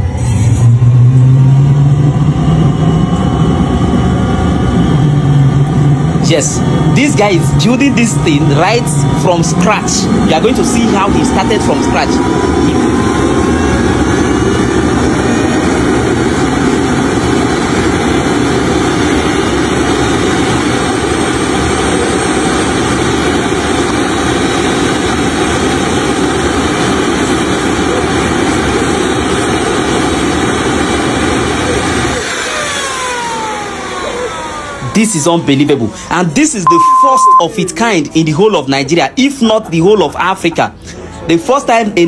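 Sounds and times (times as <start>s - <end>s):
jet engine roaring: 0.0s - 37.4s
jet engine whine: 0.0s - 42.0s.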